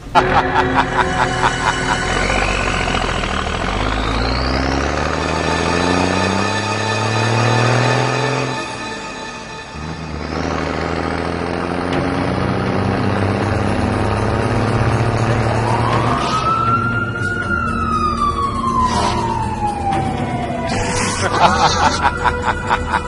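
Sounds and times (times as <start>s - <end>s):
emergency vehicle siren wailing: 0.0s - 23.0s.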